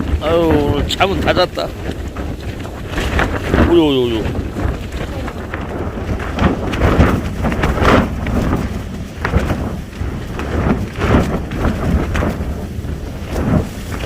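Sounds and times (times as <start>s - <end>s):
tent fabric flapping: 0.0s - 14.0s
wind rumble on microphone: 0.0s - 14.0s.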